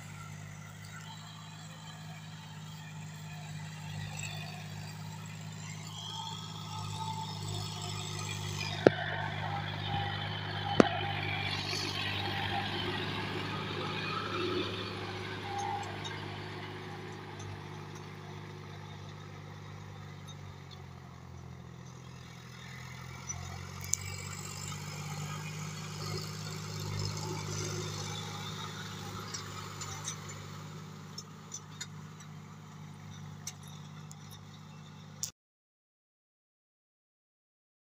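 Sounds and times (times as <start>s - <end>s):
tractor diesel engine running: 0.0s - 35.3s.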